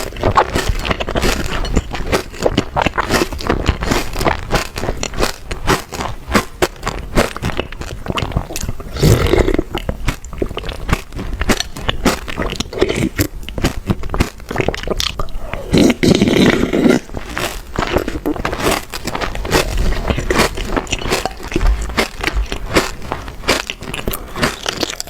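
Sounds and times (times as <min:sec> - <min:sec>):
chewing chocolate crunching: 0:00.0 - 0:25.0.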